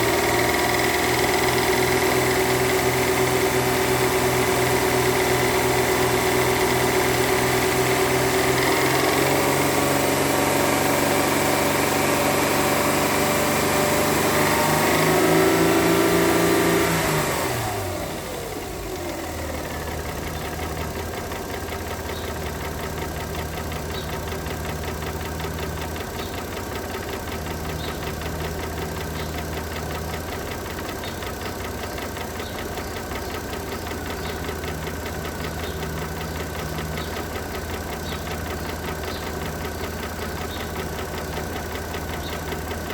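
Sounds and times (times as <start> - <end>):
car engine revving and idling: 0.0 - 42.9
engine knocking: 0.0 - 42.9.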